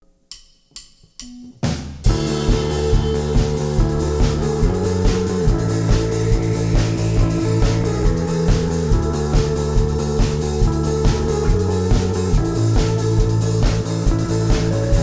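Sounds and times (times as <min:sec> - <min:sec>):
rock band with guitar and drums: 0:01.8 - 0:15.0.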